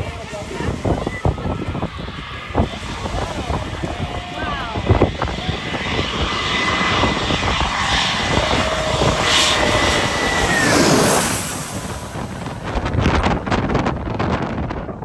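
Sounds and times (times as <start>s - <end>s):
airplane engines passing overhead: 0.0s - 15.0s.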